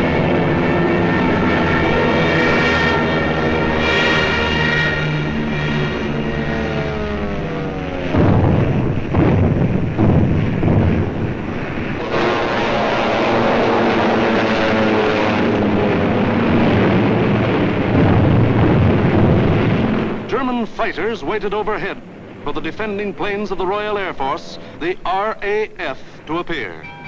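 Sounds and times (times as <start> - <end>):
heavy bangs: 0.0 - 25.0
falling drone: 0.0 - 26.0
propeller aircraft engine drone: 0.0 - 27.0.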